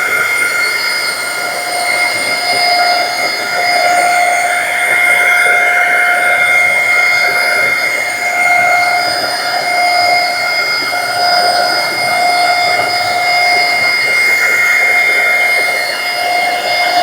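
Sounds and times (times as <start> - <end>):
paint sprayer motor whine: 0.0 - 17.0.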